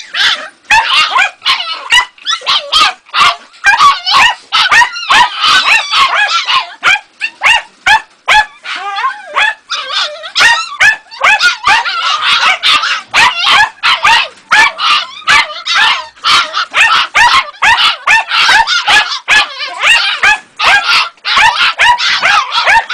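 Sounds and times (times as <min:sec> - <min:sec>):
dog whining: 0:00.0 - 0:07.5, 0:08.4 - 0:22.9
puppy yapping and barking: 0:00.0 - 0:22.9.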